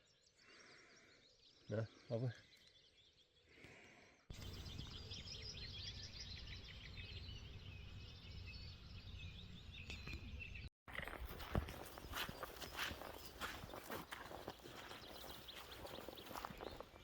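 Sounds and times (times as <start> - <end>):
birds chirping and singing: 0.0 - 17.0.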